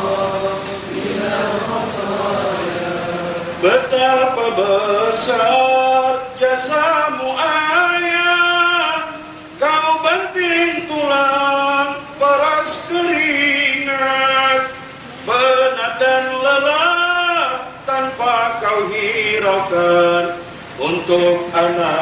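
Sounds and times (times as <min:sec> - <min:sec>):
man chanting through a microphone: 0:00.0 - 0:22.0.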